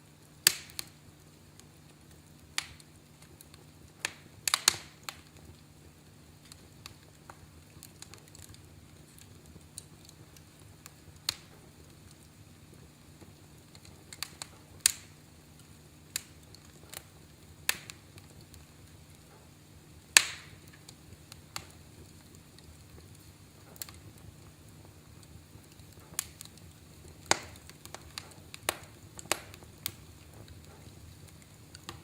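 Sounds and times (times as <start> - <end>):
fire crackling with sharp pops: 0.0 - 32.0.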